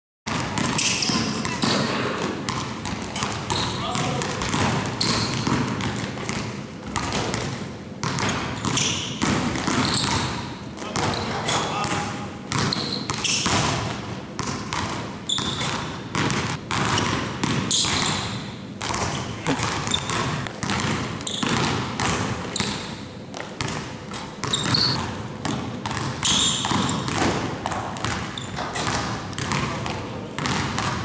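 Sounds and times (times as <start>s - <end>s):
sneaker squeaks: 0.3s - 6.4s, 7.0s - 29.7s
basketballs bouncing on hardwood: 0.3s - 31.0s.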